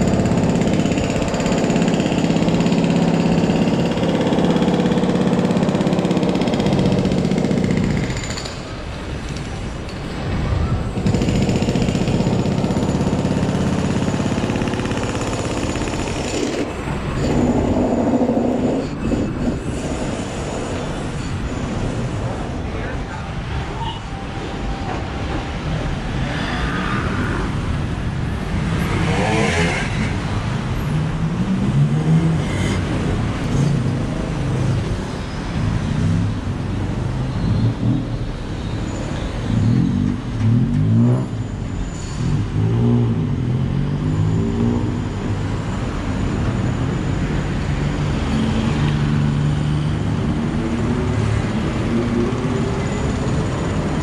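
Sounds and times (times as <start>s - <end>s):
traffic din: 0.0s - 54.0s
vehicles passing and revving: 0.0s - 54.0s.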